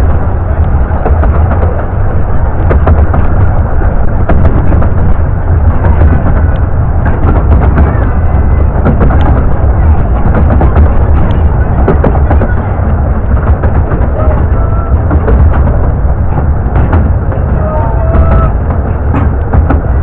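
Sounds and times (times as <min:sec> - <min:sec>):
clicks and knocks: 0:00.0 - 0:20.0
miniature railway carriage rumble: 0:00.0 - 0:20.0
wind buffeting microphone: 0:00.0 - 0:20.0.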